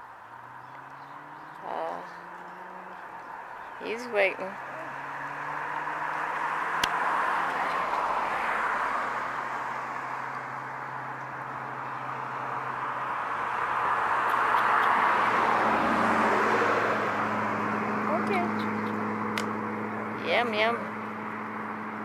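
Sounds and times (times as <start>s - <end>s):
vehicles passing with hiss: 0.0s - 22.0s.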